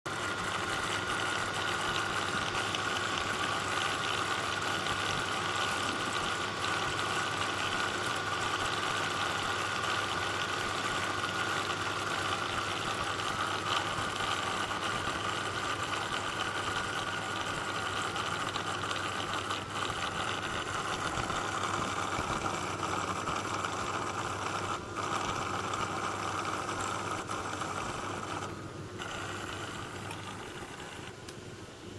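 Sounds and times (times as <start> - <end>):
laptop cooling fan whirring: 0.1 - 31.9.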